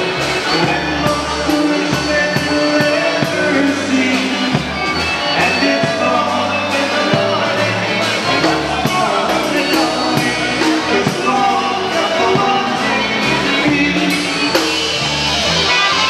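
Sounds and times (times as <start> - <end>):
drum kit beat: 0.0 - 16.0
polka band playing: 0.0 - 16.0.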